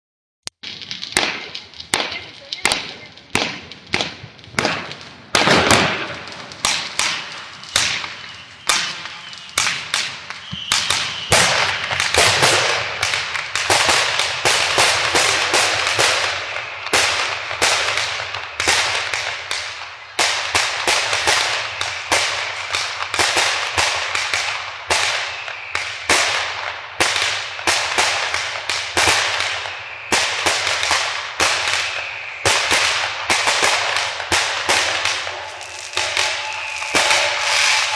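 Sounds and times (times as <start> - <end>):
firecrackers banging and crackling: 0.4 - 37.9.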